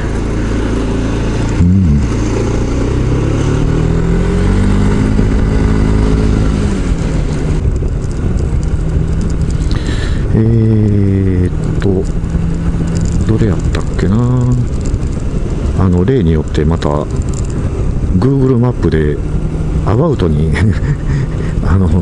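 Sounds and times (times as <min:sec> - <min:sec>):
scooter engine running: 0:00.0 - 0:18.4.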